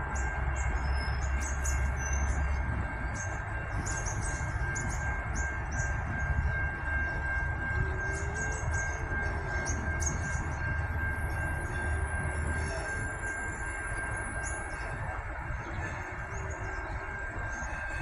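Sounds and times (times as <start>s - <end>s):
train high whine: 0.0s - 18.0s
train low rumble: 0.0s - 18.0s.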